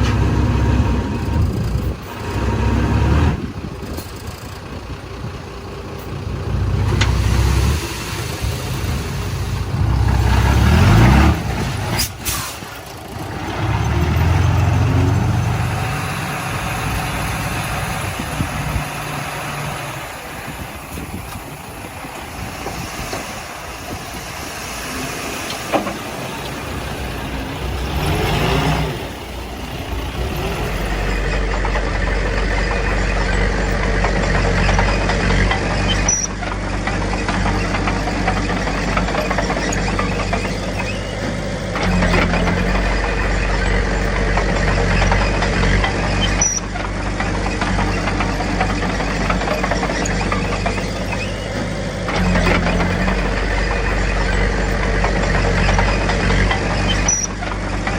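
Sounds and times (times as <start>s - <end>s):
heavy diesel machinery drone: 0.0s - 57.9s.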